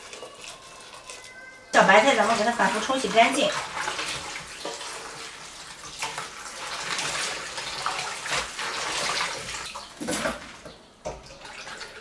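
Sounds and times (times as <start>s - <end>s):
water splashing over leaves: 0.0s - 10.4s.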